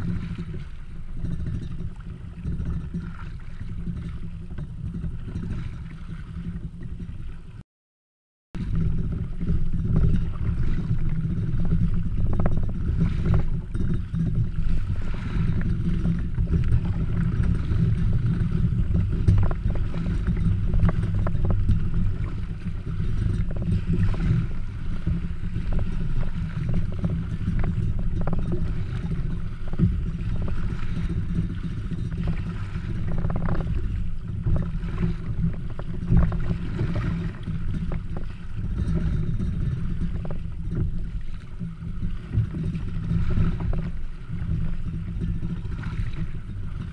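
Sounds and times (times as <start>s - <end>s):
paddle splashes: 0.0s - 7.6s, 8.6s - 46.9s
water slapping kayak hull: 0.0s - 7.6s, 8.6s - 46.9s
wind buffeting microphone: 0.0s - 7.6s, 8.6s - 46.9s.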